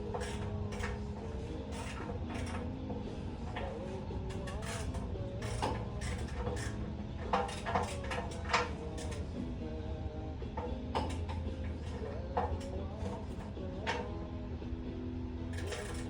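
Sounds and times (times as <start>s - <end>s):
music on car radio: 0.0s - 16.0s.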